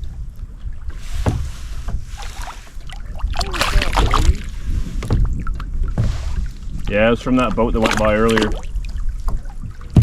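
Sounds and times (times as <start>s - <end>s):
waves lapping against kayak hull: 0.0s - 10.0s
wind rumbling on microphone: 0.0s - 10.0s.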